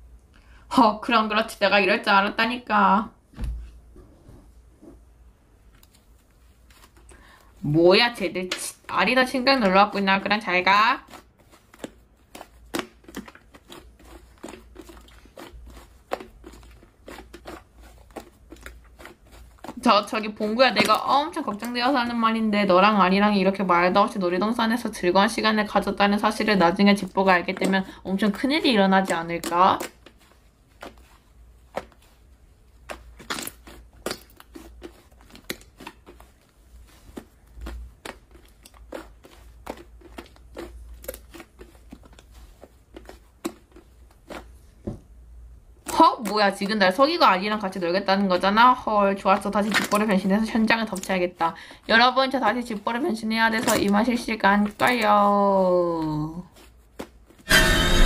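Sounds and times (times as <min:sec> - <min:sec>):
slime being kneaded by hand: 0:04.6 - 0:58.0.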